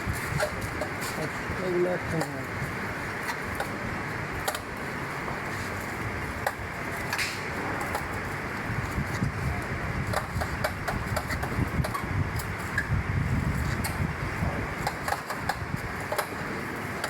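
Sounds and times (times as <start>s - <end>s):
machinery hum and rumble: 0.0s - 17.0s.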